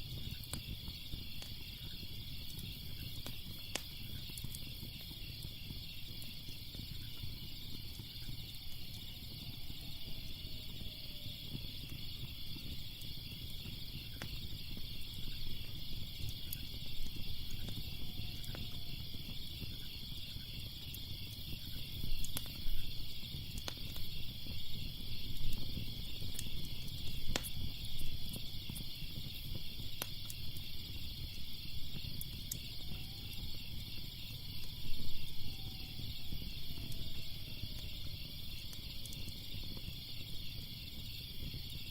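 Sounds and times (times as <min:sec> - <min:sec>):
crickets chirping: 0:00.0 - 0:41.9
wood fire crackling: 0:00.0 - 0:41.9.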